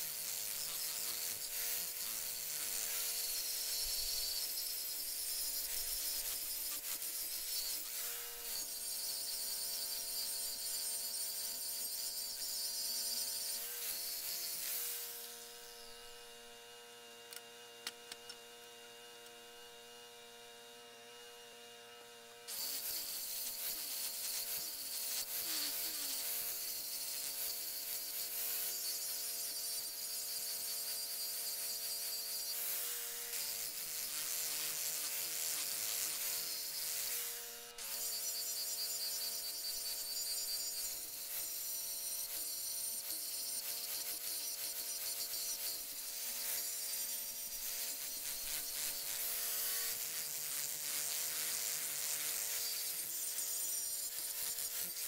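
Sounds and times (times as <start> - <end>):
power tool cutting metal: 0.0 - 55.0.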